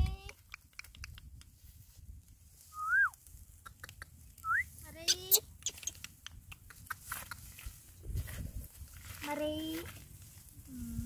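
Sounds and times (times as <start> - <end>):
dry grass crackling: 0.0 - 11.0.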